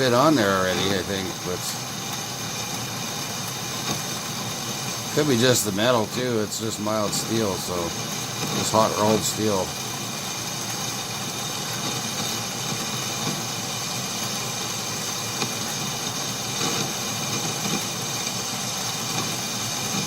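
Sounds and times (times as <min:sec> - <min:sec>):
metal lathe cutting steel: 0:00.0 - 0:20.0.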